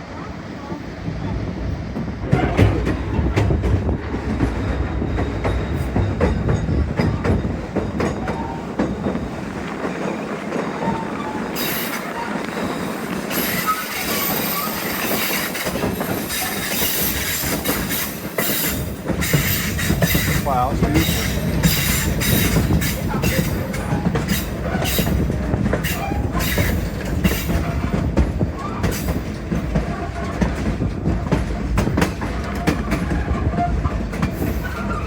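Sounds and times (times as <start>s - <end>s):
train wheels clacking over rail joints: 1.9s - 35.0s
wheels squealing on rails: 4.3s - 35.0s.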